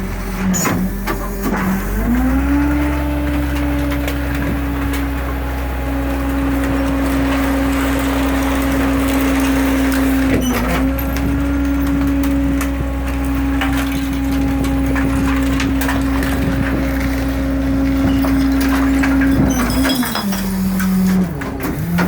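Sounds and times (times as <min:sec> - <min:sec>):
diesel engine droning: 0:00.0 - 0:22.0
trash cracking and snapping: 0:00.5 - 0:22.0.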